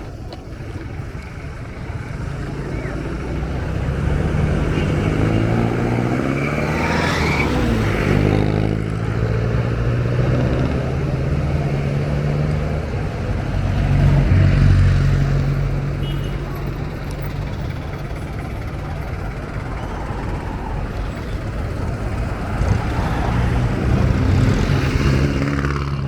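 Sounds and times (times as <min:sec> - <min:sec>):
motor traffic: 0:00.0 - 0:26.0
vehicle passing close: 0:00.0 - 0:26.0.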